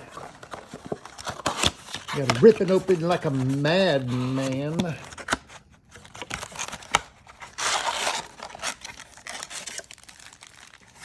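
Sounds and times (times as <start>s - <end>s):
cardboard box tearing open: 0.0s - 11.0s
packaging crackling and scraping: 0.0s - 11.0s.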